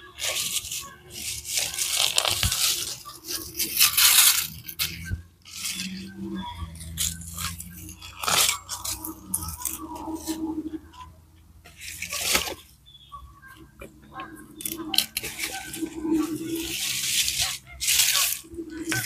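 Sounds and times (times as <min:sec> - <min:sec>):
dry plant stems crunching and rustling: 0:00.0 - 0:12.8, 0:13.8 - 0:19.0.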